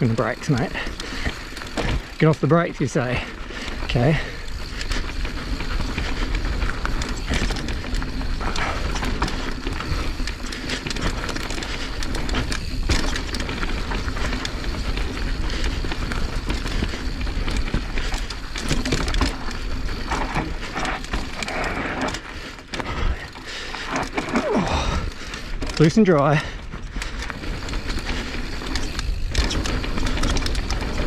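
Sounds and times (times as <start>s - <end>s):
bike rattling over bumps: 0.0s - 31.0s
bike tyres crunching on dirt: 0.0s - 31.0s.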